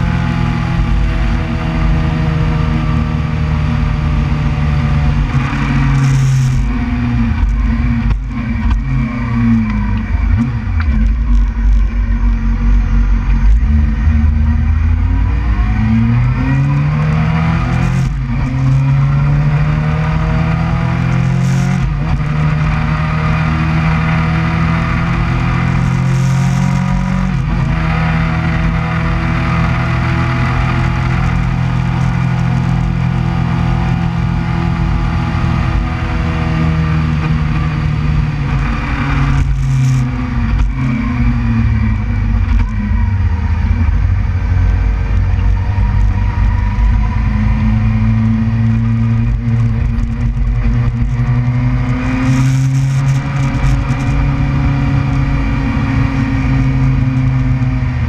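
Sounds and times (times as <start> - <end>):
motorcycle engine while riding: 0.0 - 58.0
wind rumble on microphone: 0.0 - 58.0.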